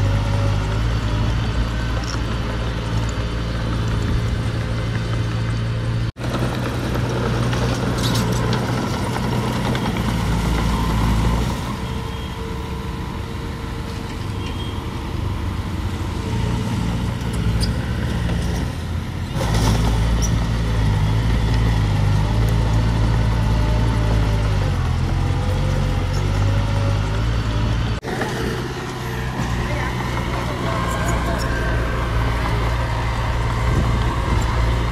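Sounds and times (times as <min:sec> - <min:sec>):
diesel machinery engines running: 0:00.0 - 0:34.9.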